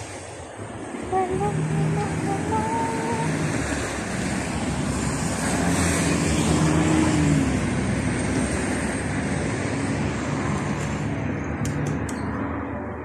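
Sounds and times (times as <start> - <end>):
road traffic passing: 0.0 - 13.0
vehicle engine hum: 0.0 - 13.0.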